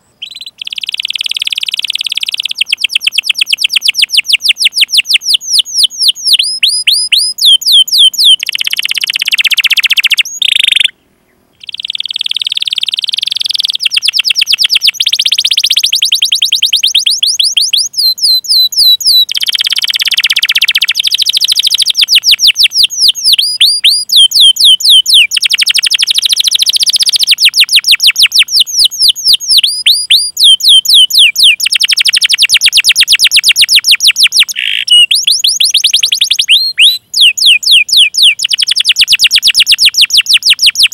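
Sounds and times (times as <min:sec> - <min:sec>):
canary singing with trills: 0:00.0 - 0:11.0, 0:11.6 - 0:40.9.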